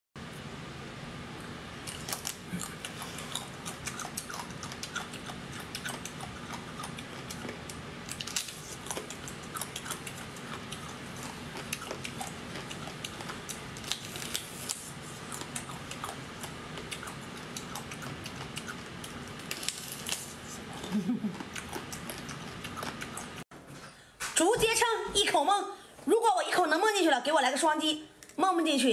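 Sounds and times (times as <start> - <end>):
steady low hum: 0.2 - 28.9.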